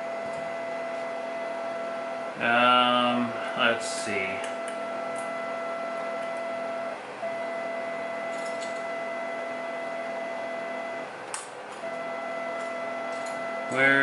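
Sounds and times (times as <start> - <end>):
printer whine: 0.0 - 14.0.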